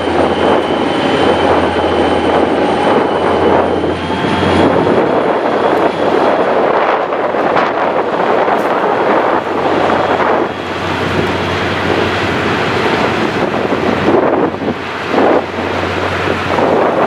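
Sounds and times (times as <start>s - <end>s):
train crossing steel bridge: 0.0s - 17.0s
wind buffeting microphone: 0.0s - 17.0s.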